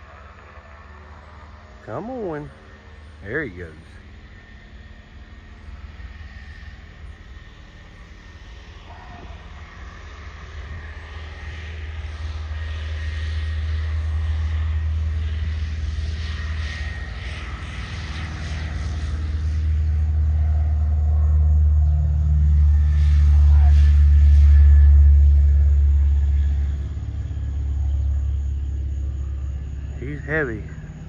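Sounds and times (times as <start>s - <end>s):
propeller airplane engine: 0.0s - 31.0s.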